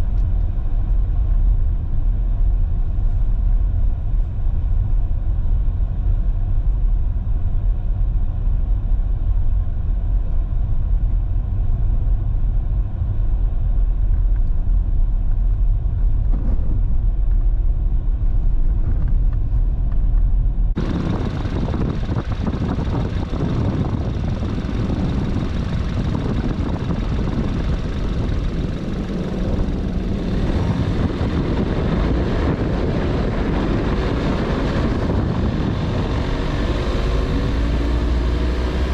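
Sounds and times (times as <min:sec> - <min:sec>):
vehicle rumbling on road: 0:00.0 - 0:38.9.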